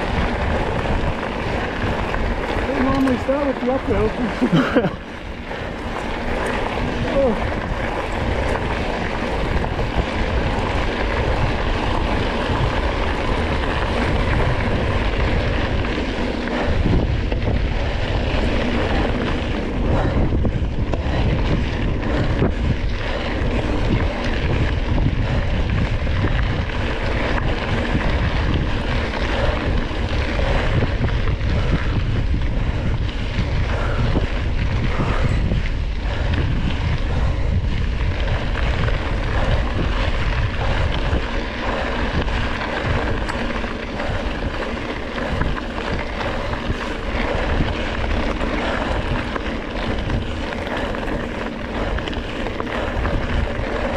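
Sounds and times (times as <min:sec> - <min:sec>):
bike tyre rumble on dirt: 0:00.0 - 0:53.9
wind rushing over microphone: 0:00.0 - 0:53.9.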